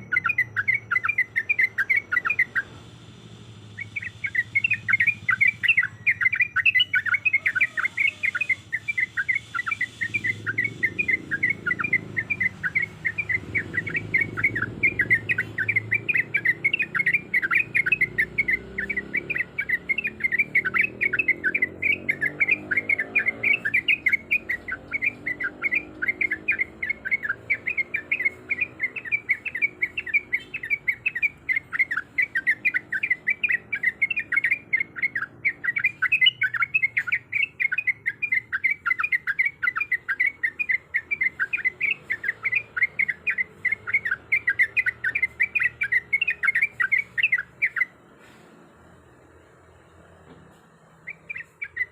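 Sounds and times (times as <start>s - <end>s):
bird singing rapid chirps: 0.0s - 51.9s.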